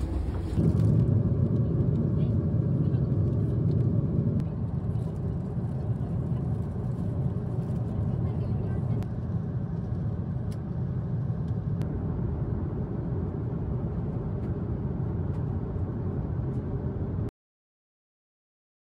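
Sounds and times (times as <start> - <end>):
airliner cabin rumble: 0.0 - 17.3.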